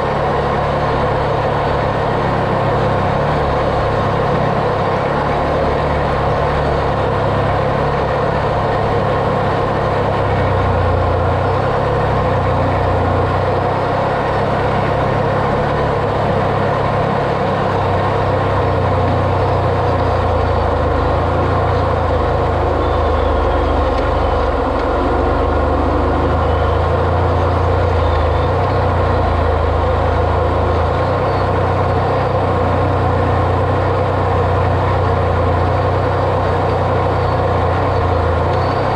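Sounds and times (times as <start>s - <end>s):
tyre and road noise: 0.0s - 38.9s
vehicle engine running: 0.0s - 38.9s.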